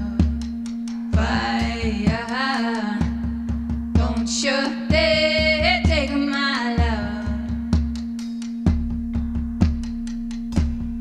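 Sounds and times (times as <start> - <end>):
drum beat: 0.0 - 11.0.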